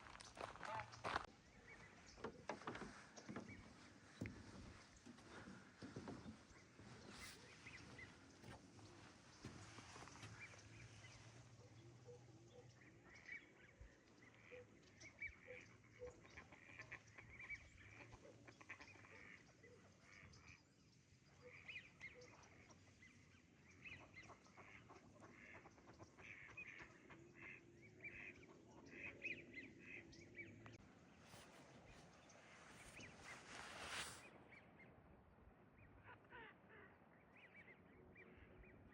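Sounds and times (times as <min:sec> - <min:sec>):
faint chorus of birds calling: 0:00.0 - 0:38.9.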